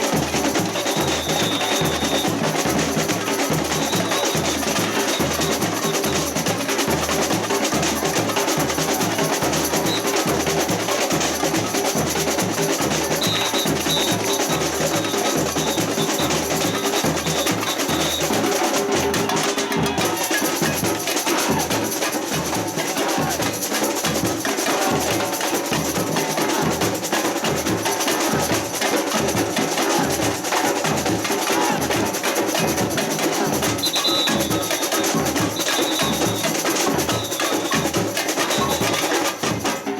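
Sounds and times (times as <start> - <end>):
clacking hand percussion: 0.0 - 39.9
snare drums: 0.0 - 39.9.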